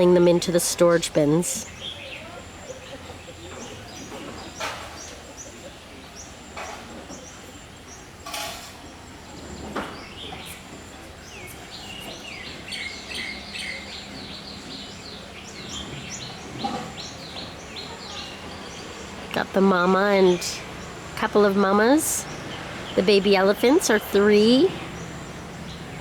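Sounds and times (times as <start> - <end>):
outdoor background noise: 0.0 - 26.0
small birds chirping: 0.0 - 26.0.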